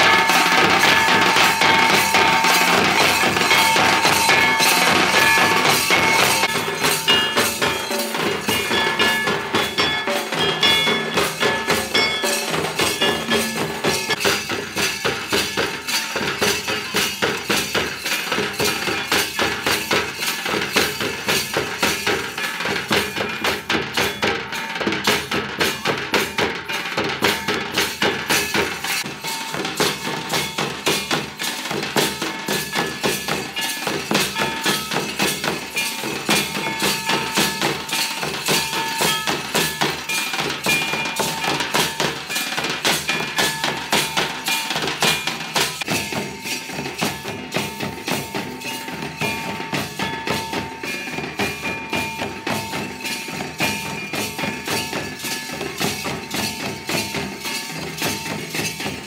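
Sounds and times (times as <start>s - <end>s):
hand drum and stick drum: 0.0s - 59.0s.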